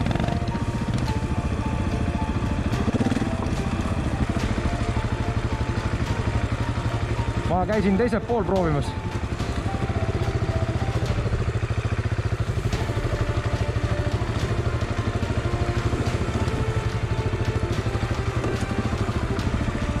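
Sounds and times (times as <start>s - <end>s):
motorcycle engine pulsing: 0.0s - 20.0s.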